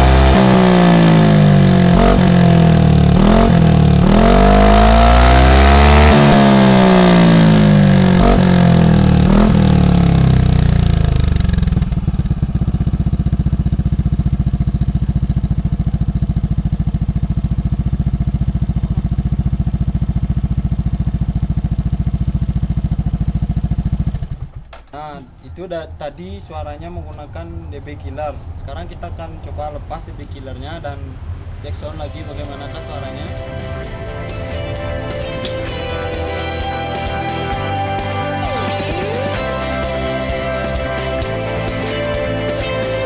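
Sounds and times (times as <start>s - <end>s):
scooter engine revving and idling: 0.0s - 24.9s, 25.5s - 43.0s.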